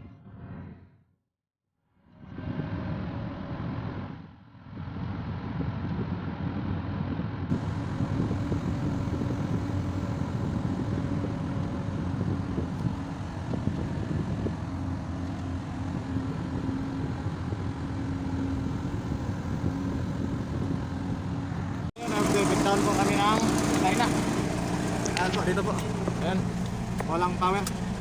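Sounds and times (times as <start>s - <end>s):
vehicle engine and road noise: 2.0s - 28.0s.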